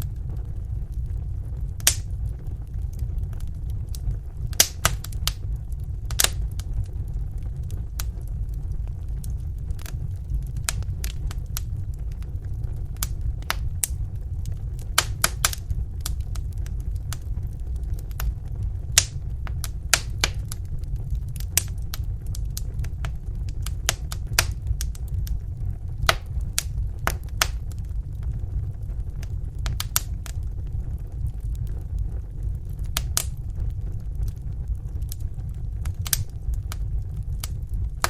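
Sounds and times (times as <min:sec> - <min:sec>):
fire flames rumbling: 0:00.0 - 0:38.0
logs crackling and popping: 0:00.0 - 0:38.0.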